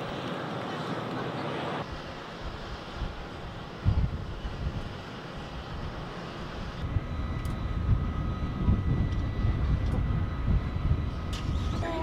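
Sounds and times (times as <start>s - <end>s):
airplane engine high whine: 0.0s - 12.0s
airplane engine rumble: 0.0s - 12.0s.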